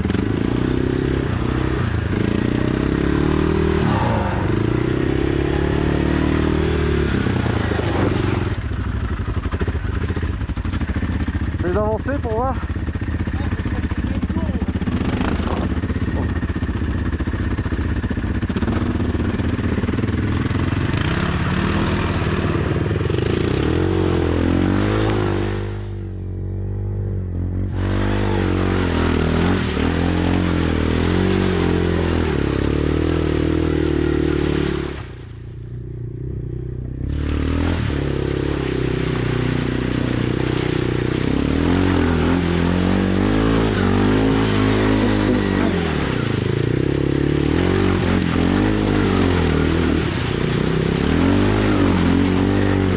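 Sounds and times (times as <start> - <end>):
quad engine revving: 0.0 - 52.9.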